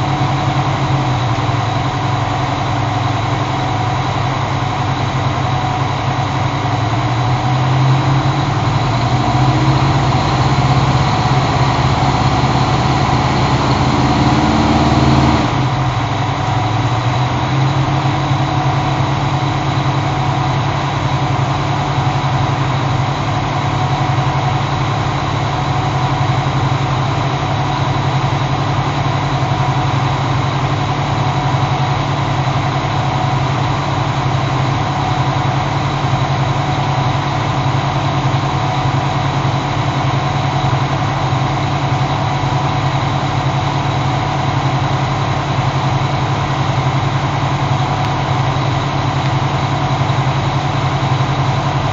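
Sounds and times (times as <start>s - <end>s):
diesel engines droning: 0.0s - 51.9s.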